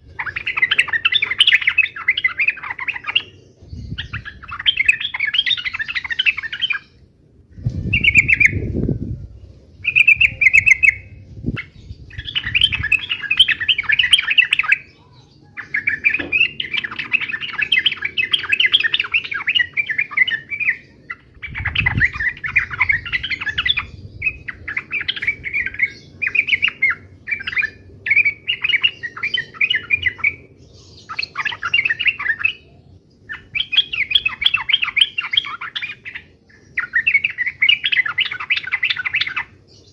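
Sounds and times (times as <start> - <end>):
bird chattering: 0.1 - 6.8, 9.8 - 32.7, 33.3 - 39.6.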